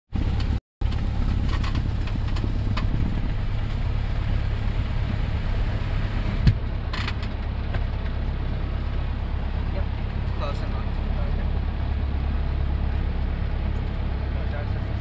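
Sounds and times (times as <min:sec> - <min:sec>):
aircraft engine drone in cabin: 0:00.2 - 0:15.0.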